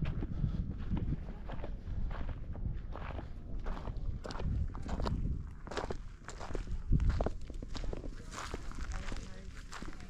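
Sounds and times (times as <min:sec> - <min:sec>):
footsteps on a trail: 0:00.0 - 0:10.0.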